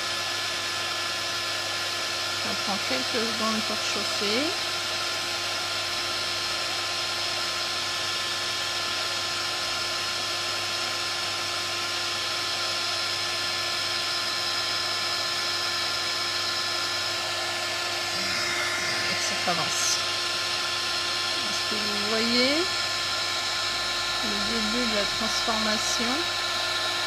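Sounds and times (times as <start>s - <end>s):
heat gun blowing: 0.0s - 27.0s.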